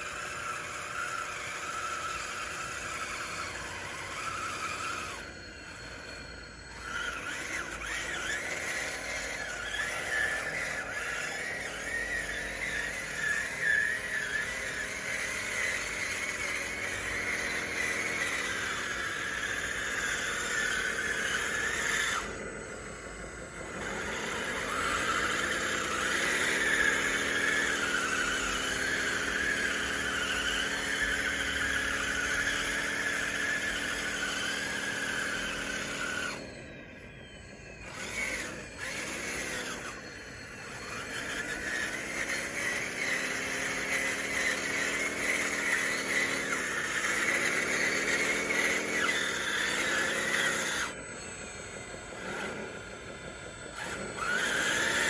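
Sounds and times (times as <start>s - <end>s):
high steady whine: 0.0s - 55.0s
toy motor whine: 0.0s - 55.0s.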